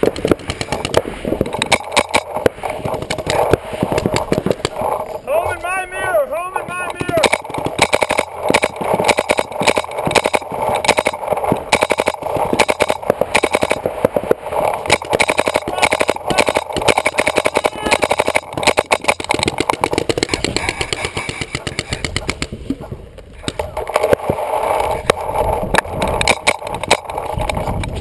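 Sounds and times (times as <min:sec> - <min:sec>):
paintball markers firing rapidly: 0:00.0 - 0:05.2, 0:06.5 - 0:28.0.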